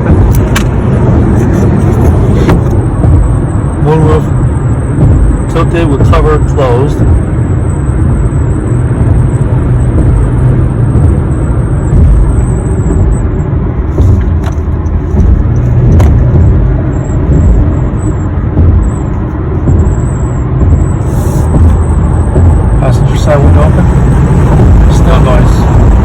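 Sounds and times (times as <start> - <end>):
road and wind noise in car: 0.0 - 26.0.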